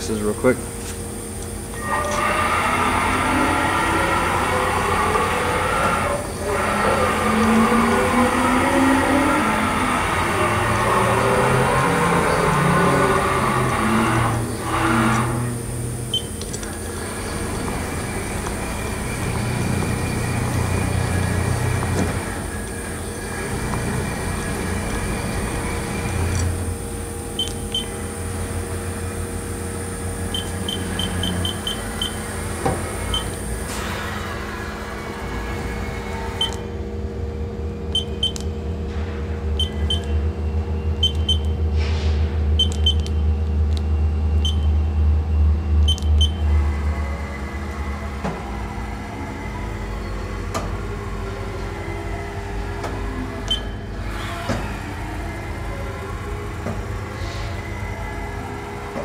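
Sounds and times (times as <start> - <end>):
machine motor hum: 0.0 - 59.0
servo whine: 0.0 - 59.0.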